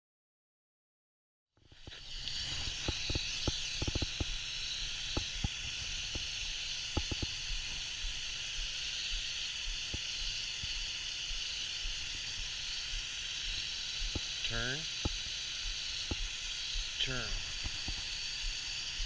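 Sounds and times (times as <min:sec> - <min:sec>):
water mist spraying hiss: 0:01.6 - 0:19.0.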